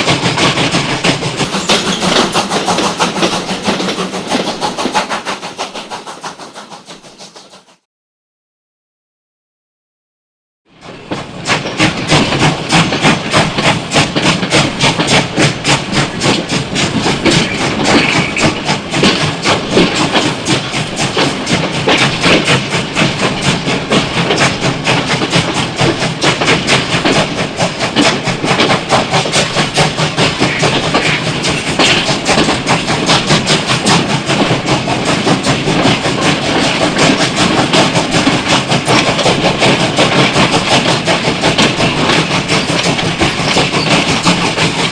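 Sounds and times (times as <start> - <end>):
train clattering on track: 0.0 - 7.8, 10.7 - 44.9.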